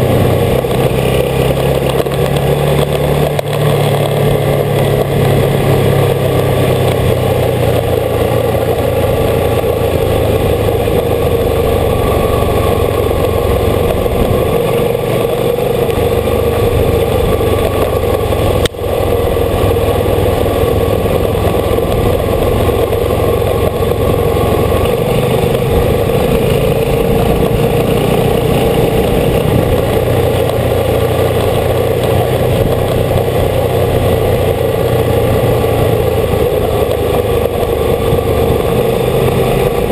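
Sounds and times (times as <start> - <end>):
motorcycle engine running: 0.0 - 39.9
wind rush on camera: 0.0 - 39.9.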